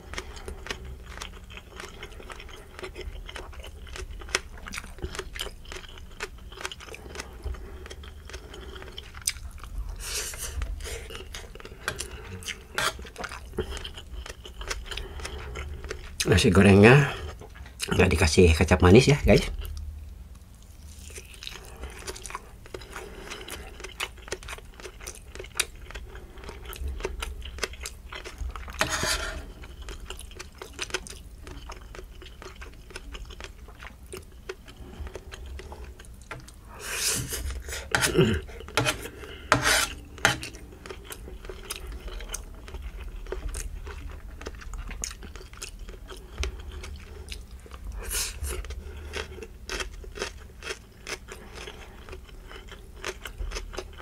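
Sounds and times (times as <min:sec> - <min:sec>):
wet chewing sounds: 0:00.0 - 0:17.9, 0:19.5 - 0:54.0.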